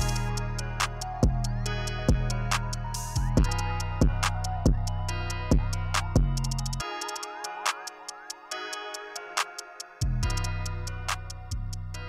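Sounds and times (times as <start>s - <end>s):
background music with held tones: 0.0s - 12.0s
steady ticking: 0.0s - 12.0s.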